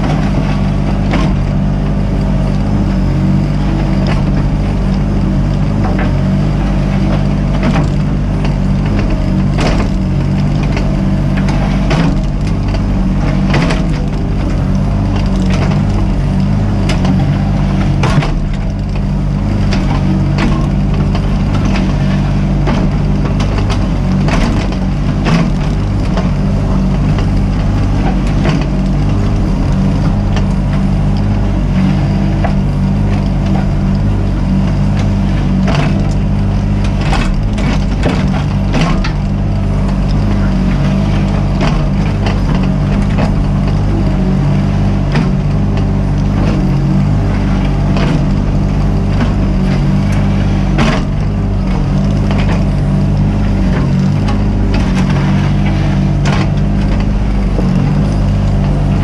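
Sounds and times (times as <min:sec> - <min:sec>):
digging knocks and scrapes: 0:00.0 - 0:59.0
excavator diesel engine running: 0:00.0 - 0:59.0.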